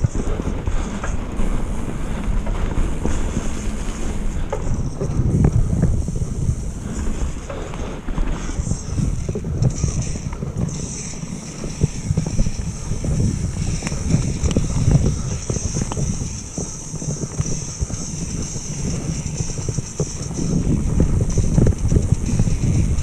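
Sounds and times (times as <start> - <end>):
bike rattling and knocking: 0.0 - 23.0
wind buffeting microphone: 0.0 - 23.0.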